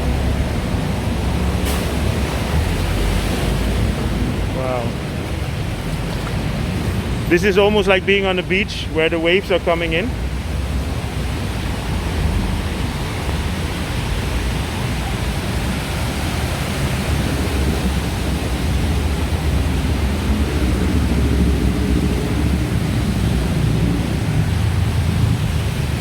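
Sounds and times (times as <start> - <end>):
deep rumble: 0.0 - 7.2, 10.2 - 26.0
floodwater rushing: 0.0 - 26.0
traffic: 0.0 - 26.0.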